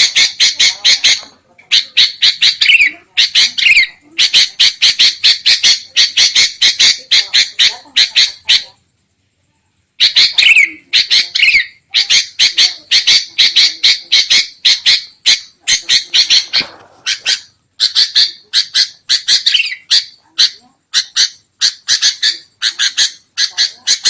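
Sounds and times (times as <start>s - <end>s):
bulbul harsh agitated chatter: 0.0s - 8.9s, 10.0s - 24.0s.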